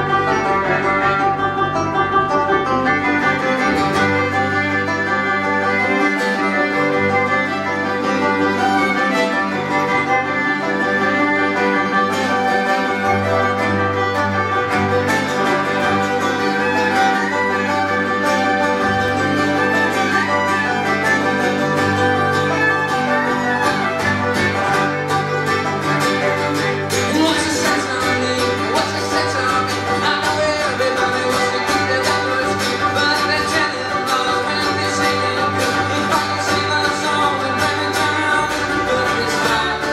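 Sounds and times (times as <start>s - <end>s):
acoustic string band playing: 0.0s - 39.9s
fiddle: 0.0s - 39.9s.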